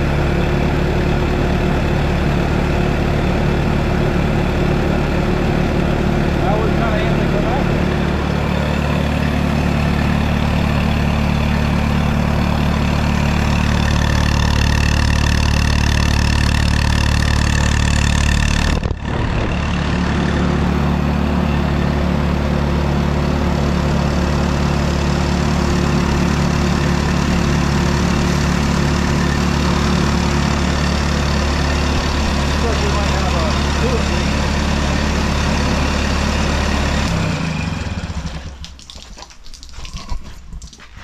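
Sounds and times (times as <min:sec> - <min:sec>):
generator engine running: 0:00.0 - 0:38.8.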